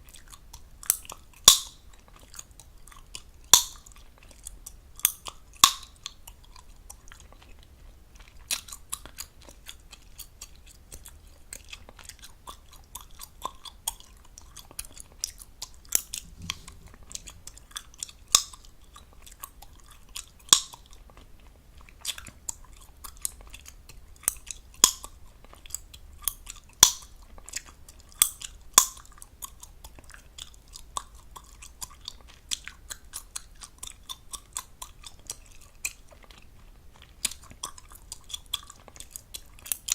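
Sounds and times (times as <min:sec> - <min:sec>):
gum popping: 0:00.1 - 0:07.5, 0:08.2 - 0:21.0, 0:22.0 - 0:36.4
gum chewing wet smacks: 0:00.1 - 0:39.9.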